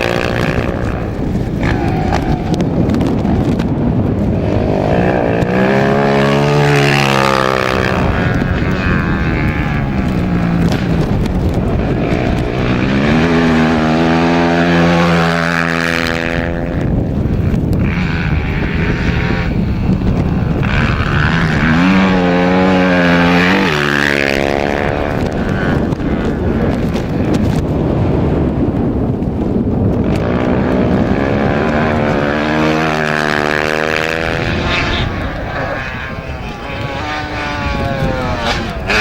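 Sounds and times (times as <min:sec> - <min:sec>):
high-revving engines passing: 0:00.0 - 0:39.0
road noise: 0:00.0 - 0:39.0.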